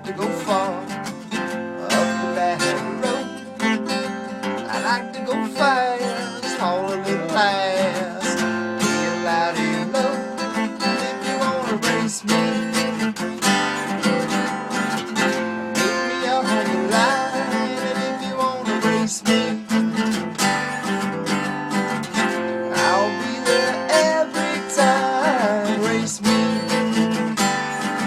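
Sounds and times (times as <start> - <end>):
strummed acoustic guitar: 0.0 - 28.0.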